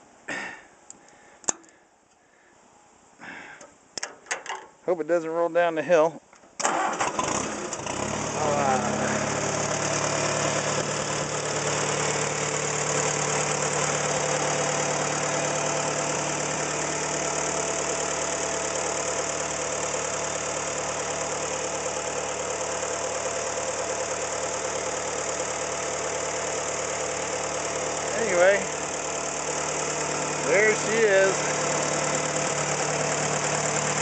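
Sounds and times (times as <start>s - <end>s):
tractor engine idling: 6.6s - 34.0s.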